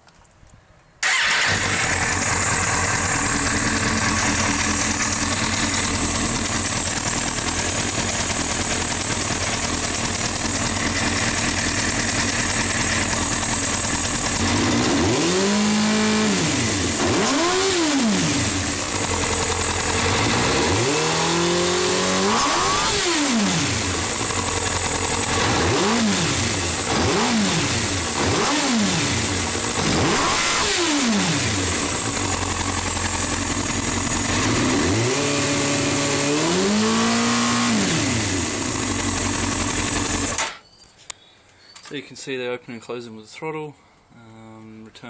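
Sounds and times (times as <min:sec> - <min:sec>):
motorcycle engine revving: 0:01.0 - 0:40.6.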